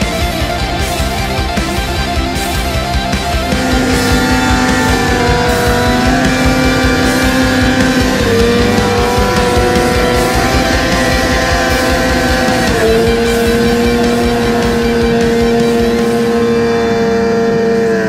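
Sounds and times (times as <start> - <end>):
snowmobile engine at high revs: 0.0 - 18.0.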